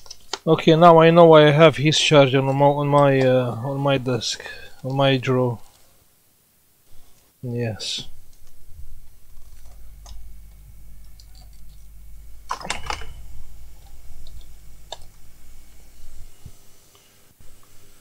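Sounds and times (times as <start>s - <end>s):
low steady hum: 0.0s - 5.7s, 7.5s - 18.0s.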